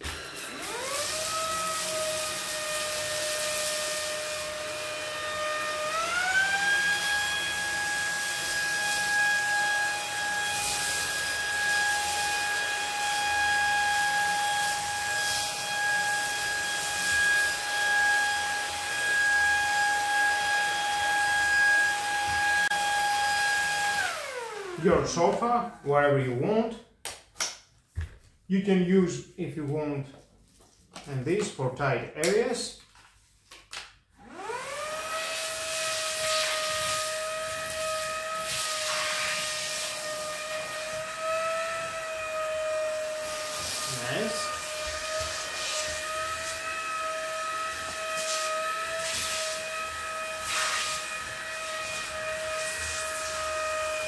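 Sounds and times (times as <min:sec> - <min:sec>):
vacuum cleaner motor whine: 0:00.0 - 0:25.5, 0:34.2 - 0:54.0.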